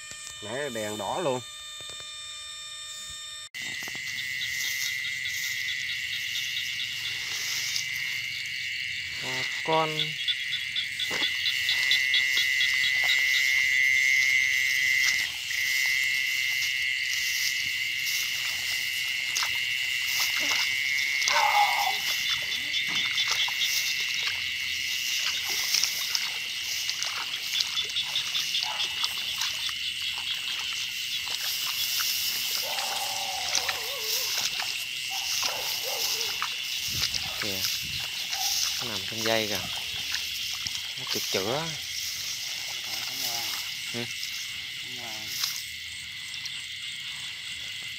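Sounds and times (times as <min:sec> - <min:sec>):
rapid pulsed trill: 0:00.0 - 0:40.6
frogs and crickets chirring: 0:00.0 - 0:47.9.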